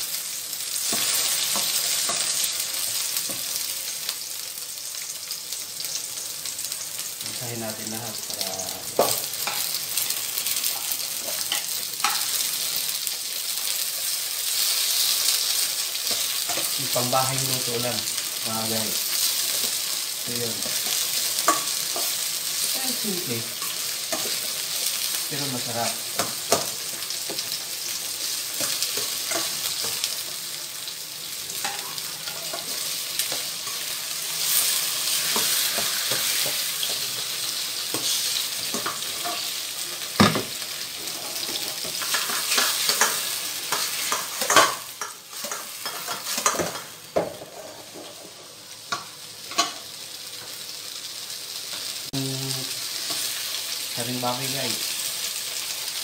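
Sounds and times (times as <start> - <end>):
onions and tomatoes sizzling: 0.0 - 56.0.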